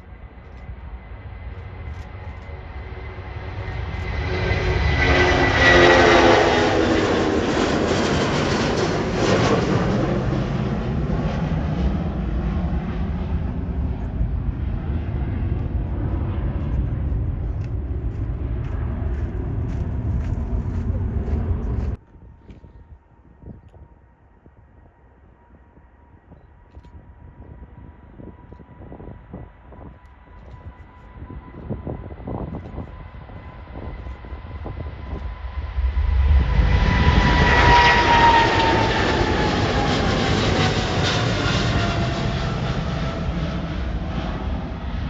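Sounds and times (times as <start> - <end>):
jet airliner passing: 0.0 - 45.0
jet engine whine: 0.0 - 45.0.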